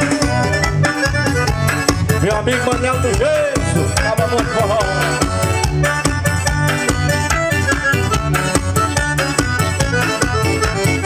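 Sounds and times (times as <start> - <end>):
accordion melody: 0.0 - 11.0
drum and percussion beat: 0.0 - 11.0.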